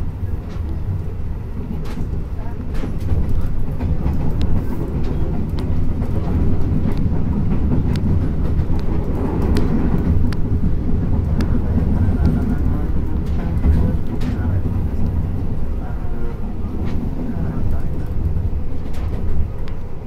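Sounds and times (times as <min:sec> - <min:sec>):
low rumble of train wheels: 0:00.0 - 0:20.0.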